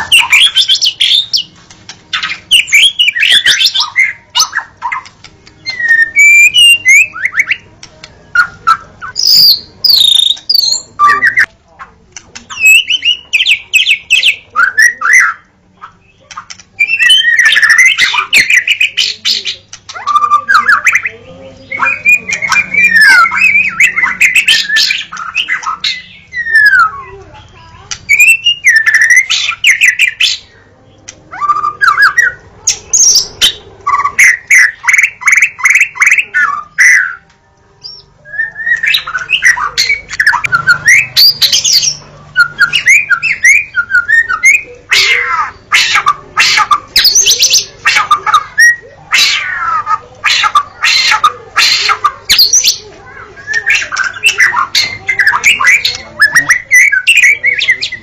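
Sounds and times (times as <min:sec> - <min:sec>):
songbird singing varied song: 0:02.2 - 0:11.5, 0:12.4 - 0:58.0.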